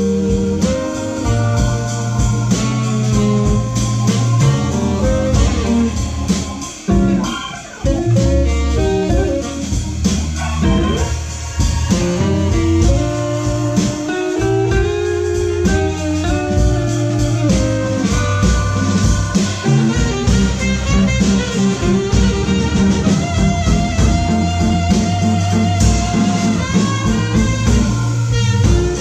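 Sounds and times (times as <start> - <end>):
blues band playing live: 0.0 - 29.0
electric guitar lead: 0.0 - 29.0
steady drum beat: 0.0 - 29.0.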